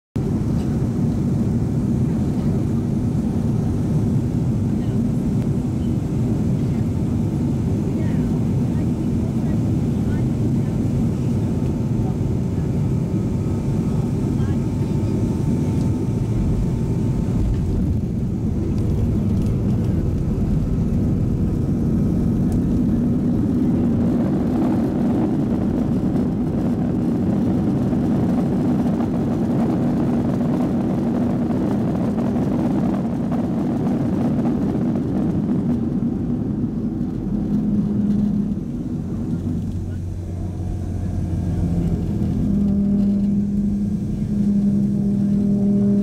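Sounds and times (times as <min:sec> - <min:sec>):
jet engine rumble in cabin: 0:00.2 - 0:46.0.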